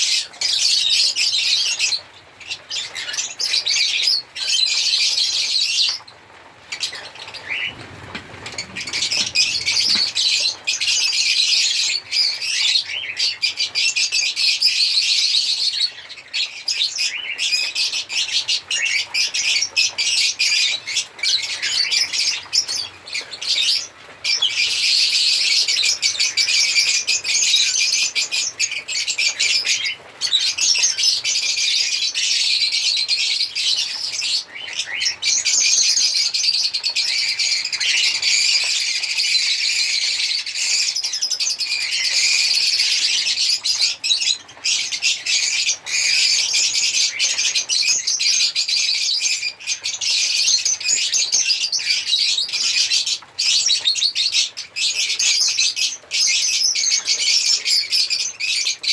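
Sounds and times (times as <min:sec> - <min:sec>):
lovebirds chirping and chattering: 0:00.0 - 0:58.9.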